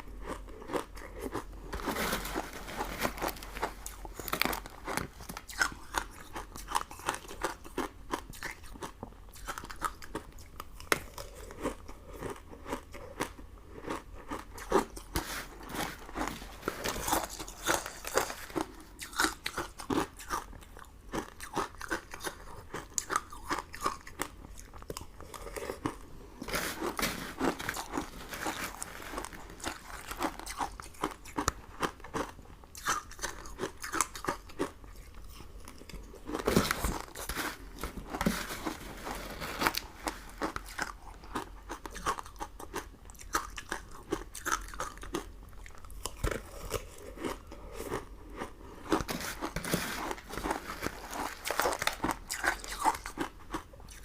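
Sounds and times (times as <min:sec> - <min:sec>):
biting and chewing crunchy sweets: 0:00.0 - 0:54.0.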